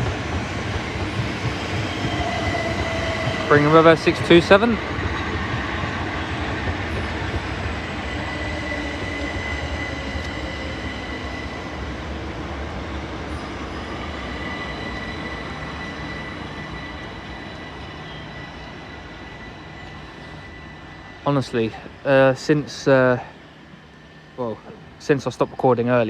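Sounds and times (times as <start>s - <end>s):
electric train running past: 0.0s - 26.0s.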